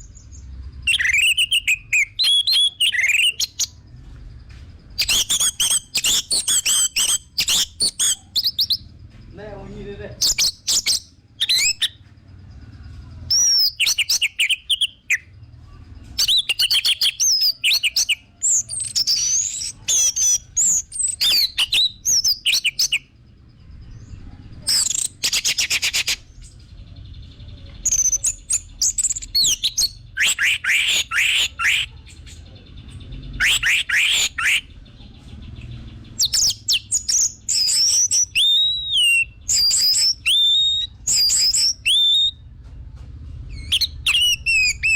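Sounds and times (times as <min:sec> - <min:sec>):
thrush singing whistled notes: 0:00.0 - 0:03.9, 0:04.9 - 0:08.9, 0:10.1 - 0:12.0, 0:13.3 - 0:15.4, 0:16.2 - 0:26.8, 0:27.8 - 0:32.0, 0:32.9 - 0:34.8, 0:35.7 - 0:42.5, 0:43.5 - 0:44.9.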